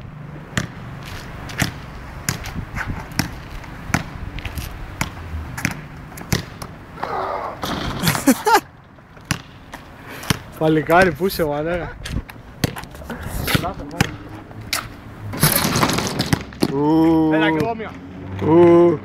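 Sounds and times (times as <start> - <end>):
basketball bouncing on asphalt: 0.1 - 8.2, 9.0 - 18.1.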